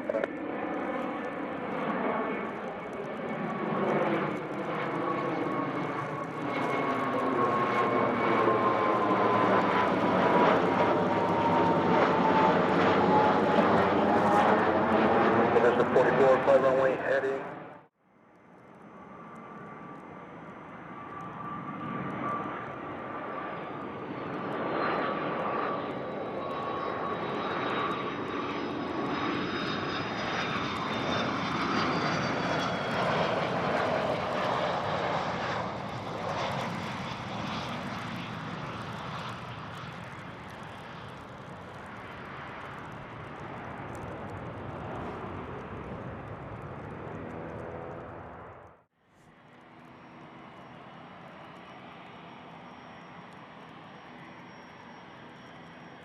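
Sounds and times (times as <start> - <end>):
jet engines passing: 0.0 - 56.0.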